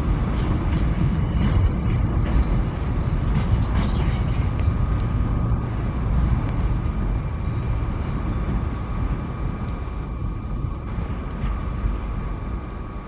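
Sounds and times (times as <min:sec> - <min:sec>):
freight train rumbling on rails: 0:00.0 - 0:13.0.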